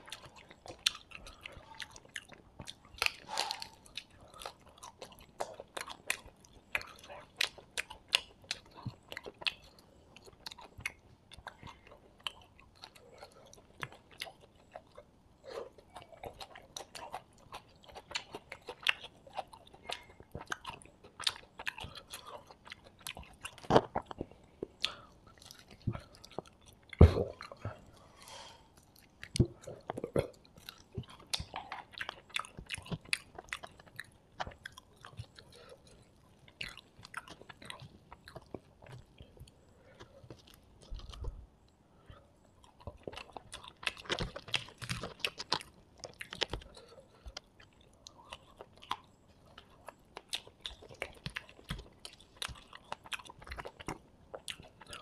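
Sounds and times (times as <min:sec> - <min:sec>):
person chewing and biting: 0:00.0 - 0:28.1, 0:28.8 - 0:41.5, 0:42.5 - 0:55.0.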